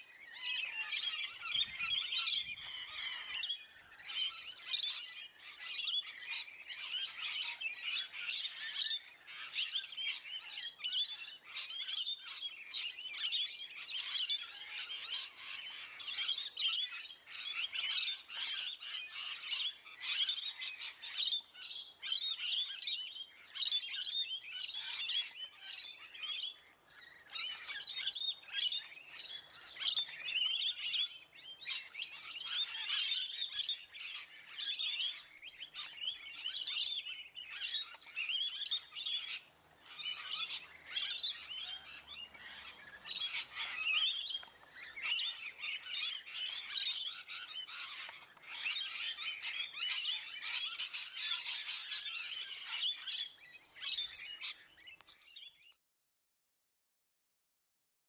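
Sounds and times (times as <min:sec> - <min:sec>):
parrots chirping and squawking: 0:00.2 - 0:07.9, 0:13.1 - 0:21.2, 0:23.8 - 0:55.6.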